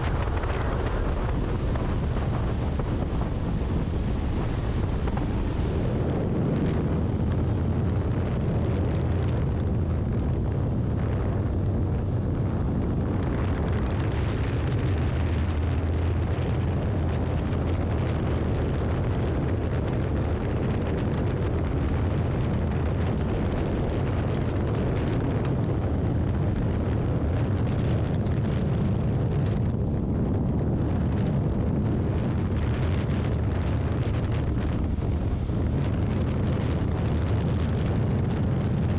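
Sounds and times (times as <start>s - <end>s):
engine and road rumble: 0.0s - 38.9s
wind buffeting microphone: 0.0s - 38.9s.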